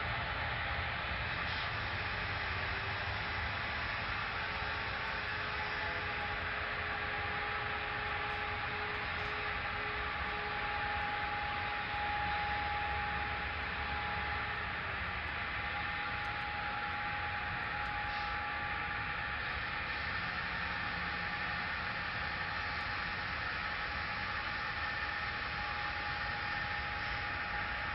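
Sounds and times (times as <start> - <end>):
faint steady whine: 0.0 - 27.9
model train cars rolling: 0.0 - 27.9.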